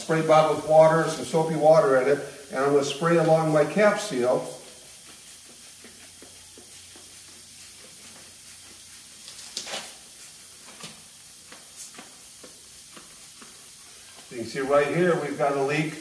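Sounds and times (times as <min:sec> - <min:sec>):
faint steady hiss: 0:00.0 - 0:16.0
spray bottle squirting: 0:00.0 - 0:16.0.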